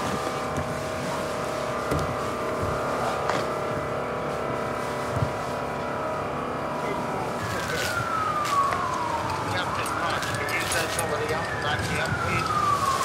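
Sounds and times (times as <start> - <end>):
fire pump engine drone: 0.0 - 13.0.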